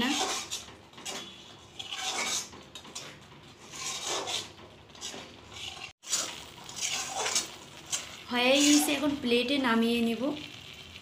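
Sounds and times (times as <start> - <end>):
metal spatula scraping a metal pan: 0.0 - 9.3.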